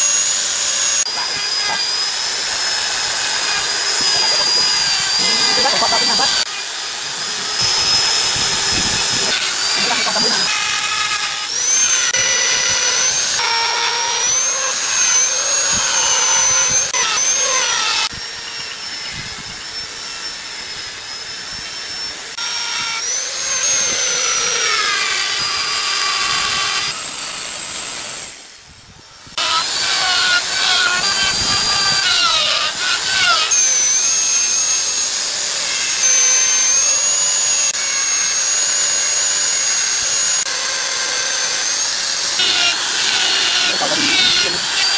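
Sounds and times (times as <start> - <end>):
rotary grinder whining into wood: 0.0 - 44.9.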